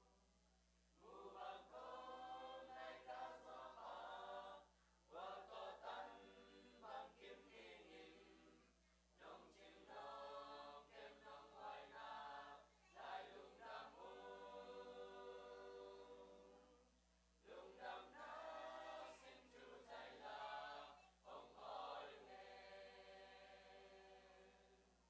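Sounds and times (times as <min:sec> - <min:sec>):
choir singing a hymn: 0:01.0 - 0:24.9.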